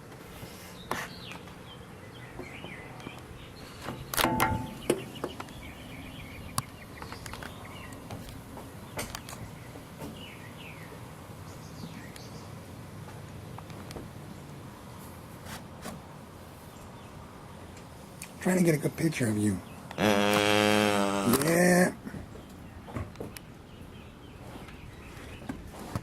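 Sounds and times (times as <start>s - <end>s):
small birds chirping: 0.4s - 15.1s, 16.4s - 26.0s.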